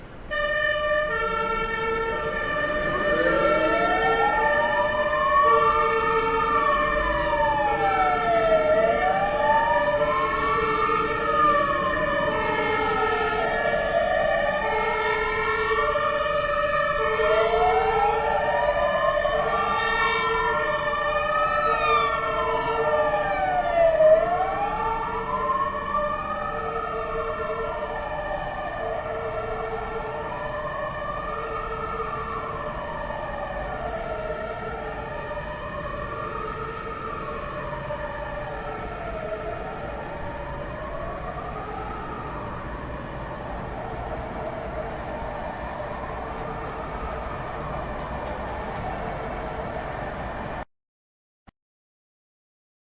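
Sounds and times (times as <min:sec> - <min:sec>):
siren wailing: 0:00.3 - 0:50.6.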